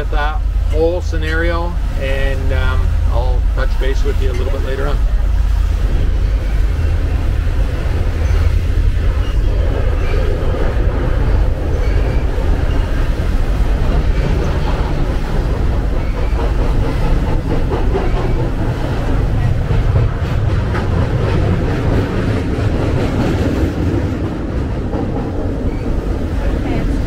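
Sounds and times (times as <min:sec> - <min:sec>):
freight train rumbling over steel bridge: 0:00.0 - 0:27.0.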